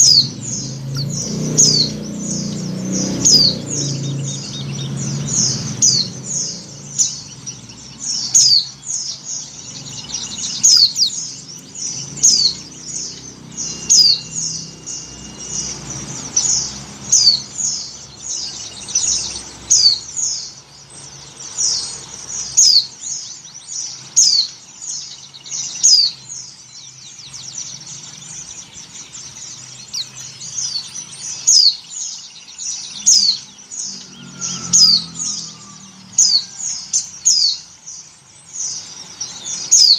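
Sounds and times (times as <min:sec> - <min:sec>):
bird chirping high downward sweeps: 0:00.0 - 0:39.9.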